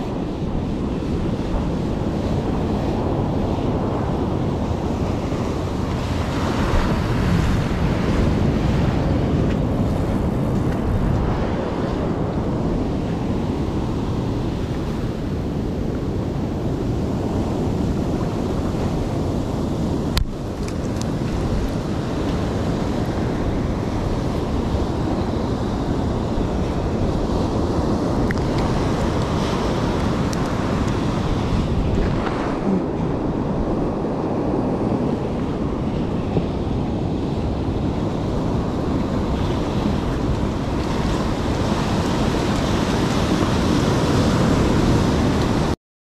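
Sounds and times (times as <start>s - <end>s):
ocean surf on beach: 0.0s - 45.8s
wind buffeting microphone: 0.0s - 45.8s.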